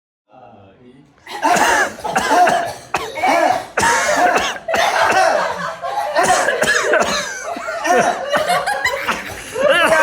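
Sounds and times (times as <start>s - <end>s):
people coughing: 1.2s - 10.0s.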